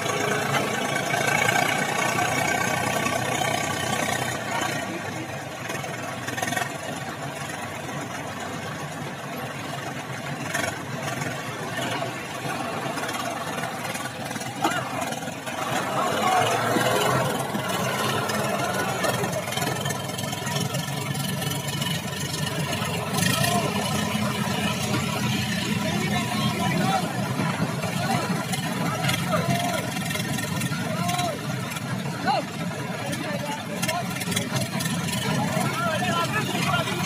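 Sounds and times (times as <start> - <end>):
tractor diesel engine labouring: 0.0 - 37.0.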